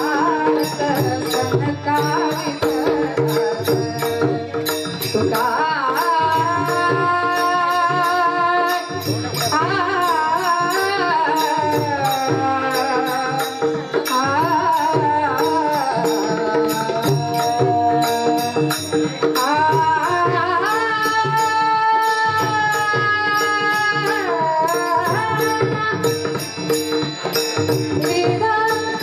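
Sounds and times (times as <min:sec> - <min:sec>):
woman singing: 0:00.0 - 0:26.6, 0:27.8 - 0:29.0
hand drum: 0:00.0 - 0:29.0.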